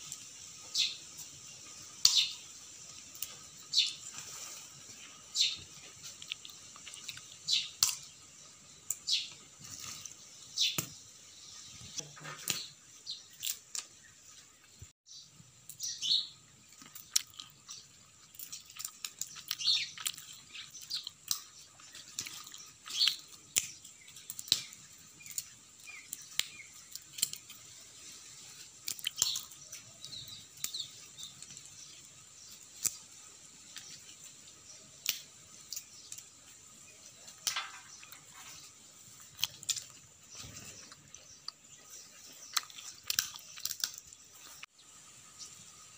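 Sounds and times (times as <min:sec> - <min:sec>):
sparrows chirping: 0:00.2 - 0:45.9.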